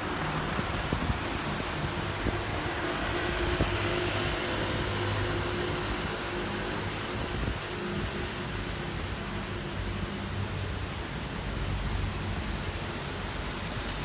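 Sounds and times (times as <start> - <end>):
tyres hissing on wet road: 0.0 - 14.0.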